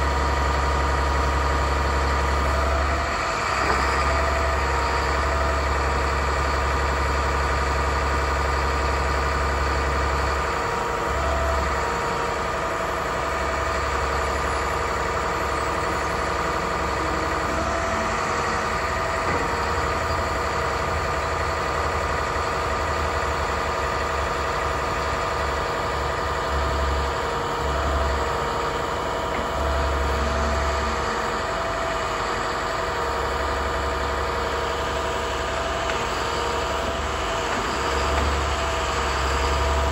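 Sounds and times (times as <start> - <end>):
diesel truck engine running: 0.0 - 39.9
hydraulics: 0.0 - 39.9.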